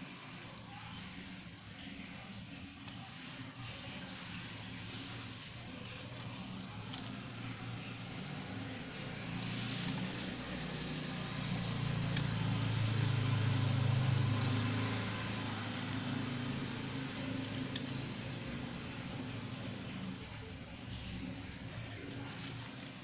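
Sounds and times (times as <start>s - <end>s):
scissors cutting paper: 0.0s - 23.0s.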